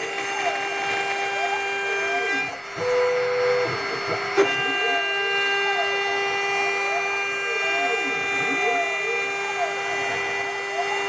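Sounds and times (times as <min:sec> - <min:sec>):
router spindle whining: 0:00.0 - 0:11.0.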